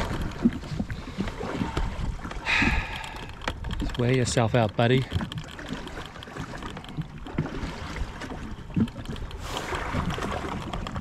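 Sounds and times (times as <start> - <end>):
sea noise: 0.0 - 11.0
water slapping against hull: 0.0 - 11.0.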